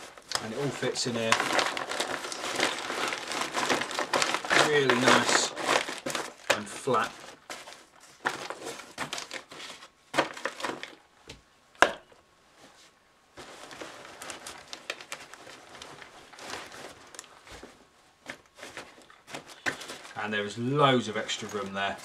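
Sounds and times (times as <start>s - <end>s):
nylon fabric rustling: 0.0s - 11.0s, 12.5s - 22.0s.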